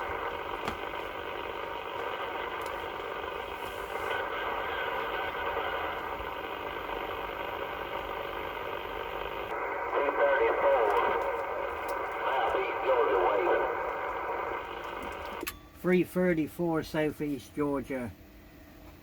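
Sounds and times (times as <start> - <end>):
radio static hiss: 0.0 - 18.1.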